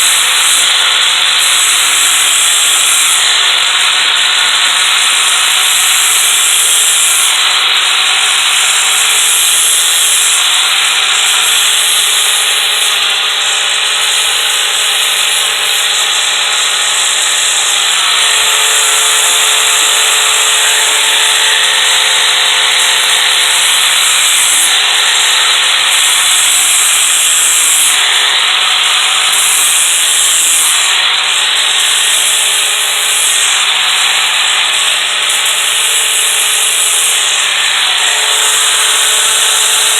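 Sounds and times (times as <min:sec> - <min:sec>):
power tool motor hum: 0:00.0 - 0:39.9
sanding disc grinding steel: 0:00.0 - 0:39.9.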